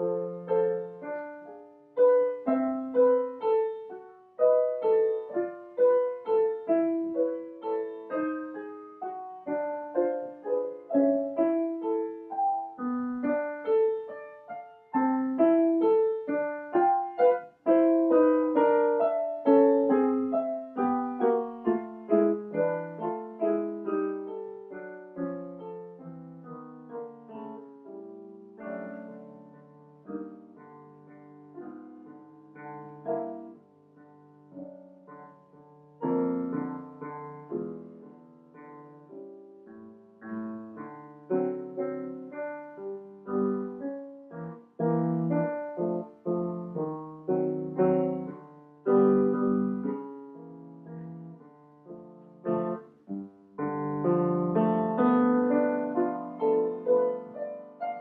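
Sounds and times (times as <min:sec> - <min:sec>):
solo grand piano: 0:00.0 - 0:58.0.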